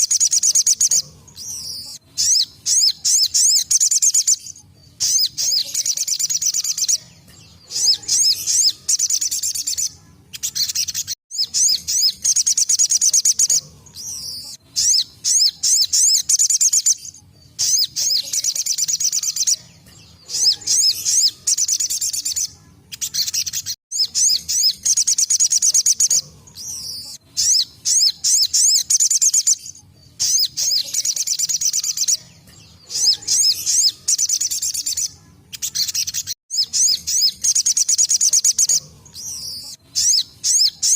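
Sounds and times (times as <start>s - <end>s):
bird singing rapid chirps: 0.0s - 40.9s.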